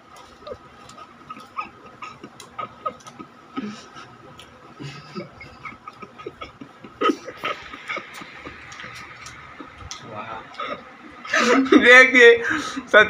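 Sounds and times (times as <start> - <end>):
biscuits crunching: 0.0 - 10.9.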